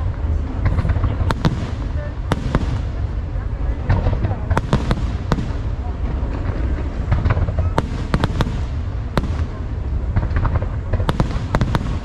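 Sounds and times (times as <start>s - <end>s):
fireworks rumble: 0.0s - 12.0s
fireworks sharp cracks: 0.6s - 12.0s.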